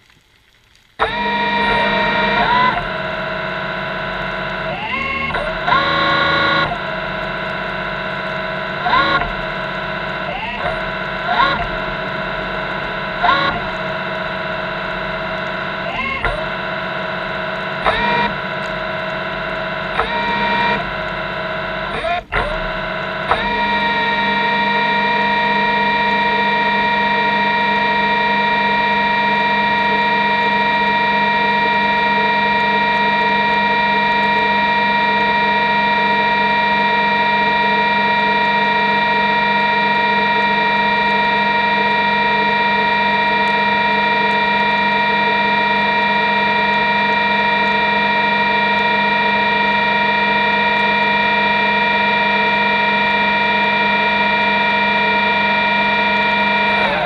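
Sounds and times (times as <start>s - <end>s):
machine hum: 0.0s - 57.0s
high whining tones: 1.0s - 57.0s.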